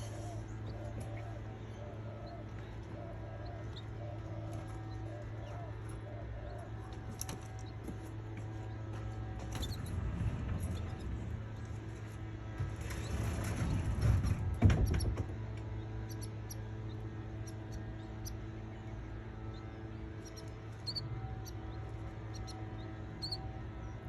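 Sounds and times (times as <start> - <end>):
baby canaries peeping: 0.0 - 24.0
electrical hum: 0.0 - 24.0.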